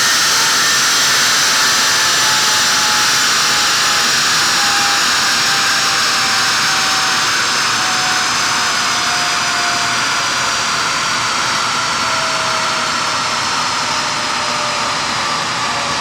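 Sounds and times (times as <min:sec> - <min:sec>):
car engine droning on dynamometer: 0:00.0 - 0:16.0.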